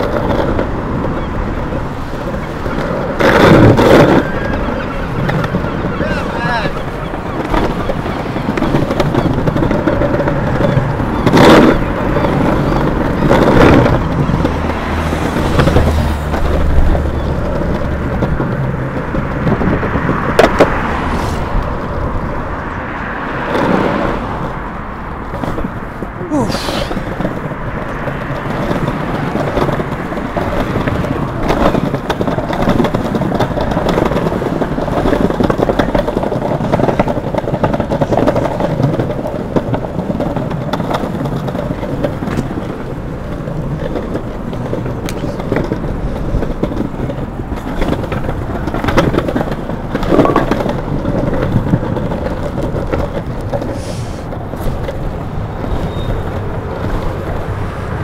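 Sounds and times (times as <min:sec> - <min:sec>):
skateboard wheels rumbling on paving: 0:00.0 - 0:58.0
wheels clicking over joints: 0:00.0 - 0:58.0.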